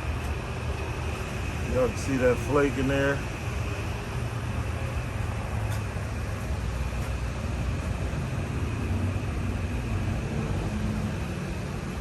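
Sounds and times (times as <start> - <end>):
steady outdoor rumble: 0.0 - 12.0.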